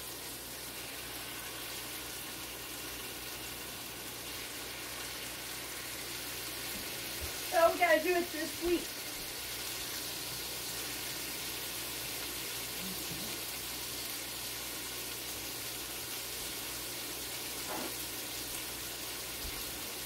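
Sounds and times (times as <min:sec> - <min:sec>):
vegetables and chicken sizzling in skillet: 0:00.0 - 0:20.0.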